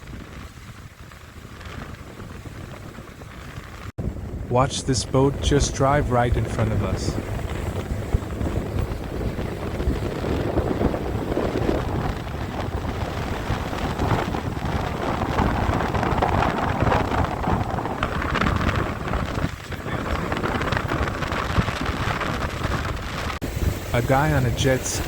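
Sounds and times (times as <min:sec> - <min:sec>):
wind buffeting microphone: 0:00.0 - 0:25.0
outboard motor running: 0:04.0 - 0:25.0.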